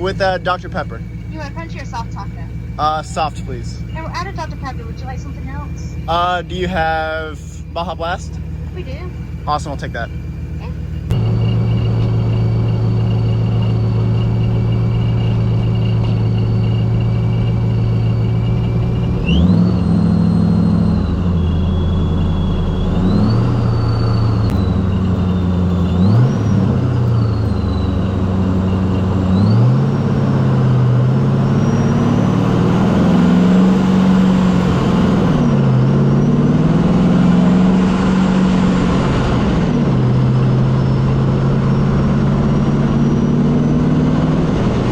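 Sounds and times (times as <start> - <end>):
car engine accelerating: 0.0 - 44.9
supercharger whine: 0.0 - 44.9.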